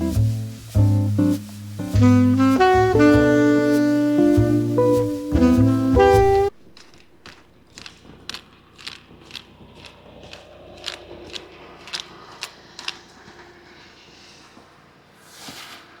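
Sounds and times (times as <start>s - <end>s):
crunching footsteps: 0.0s - 13.5s.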